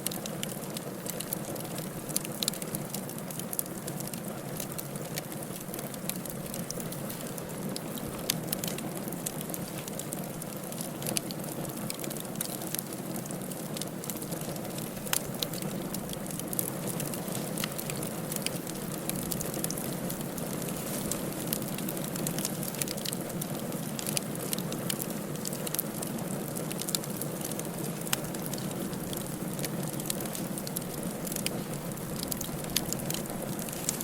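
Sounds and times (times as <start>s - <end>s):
firewood crackling and popping: 0.0s - 34.0s.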